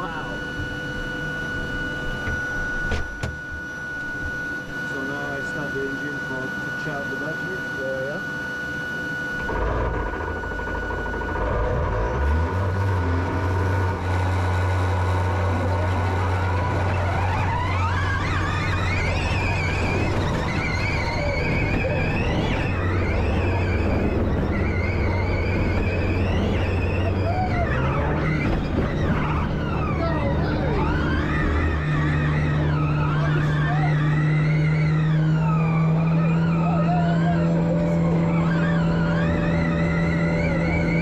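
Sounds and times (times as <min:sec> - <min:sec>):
electric motor whine: 0:00.0 - 0:41.0
petrol engine droning: 0:00.0 - 0:41.0.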